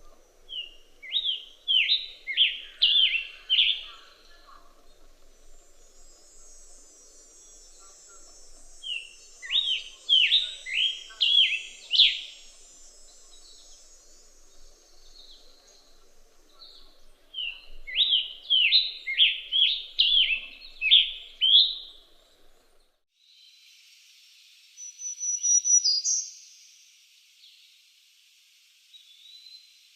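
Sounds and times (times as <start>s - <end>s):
bird singing: 0.0s - 22.9s, 24.8s - 26.7s.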